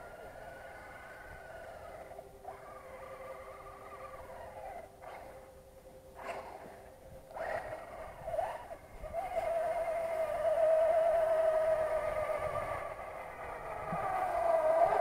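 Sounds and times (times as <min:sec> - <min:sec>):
electric motor whining: 0:00.0 - 0:05.6, 0:06.2 - 0:15.0.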